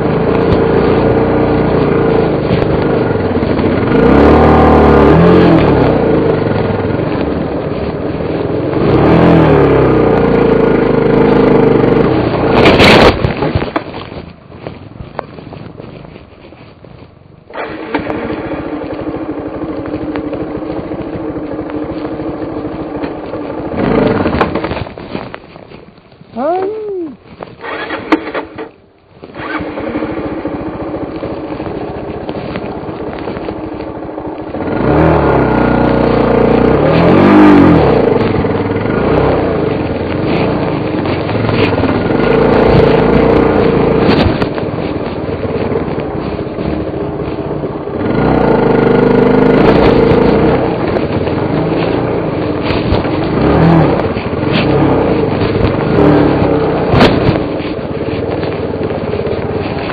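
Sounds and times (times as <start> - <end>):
motorbike engine revving: 0.0 - 16.7, 17.5 - 25.7, 27.5 - 59.9.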